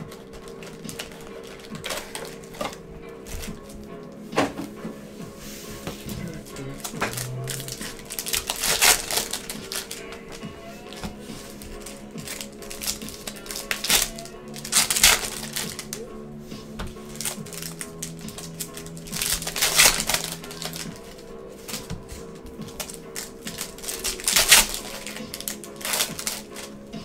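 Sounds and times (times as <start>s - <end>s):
foil wrappers crinkling: 0.0s - 4.8s, 5.8s - 27.0s
background music: 0.0s - 27.0s.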